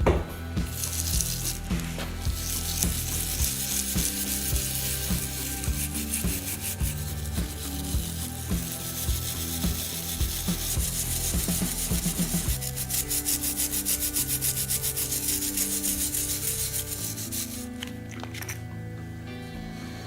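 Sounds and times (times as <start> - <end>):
hand sanding strokes: 0.6 - 18.0.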